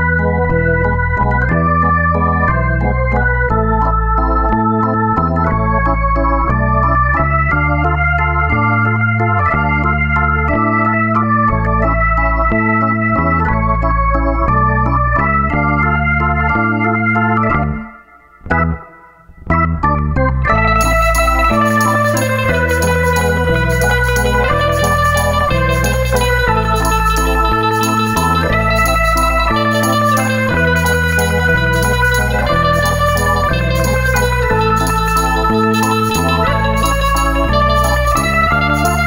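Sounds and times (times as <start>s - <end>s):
electronic organ keyboard tune: 0.0s - 39.0s.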